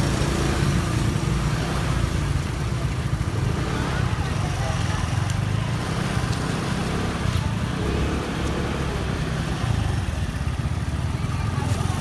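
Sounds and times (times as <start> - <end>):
scooter engines rumbling: 0.0 - 12.0.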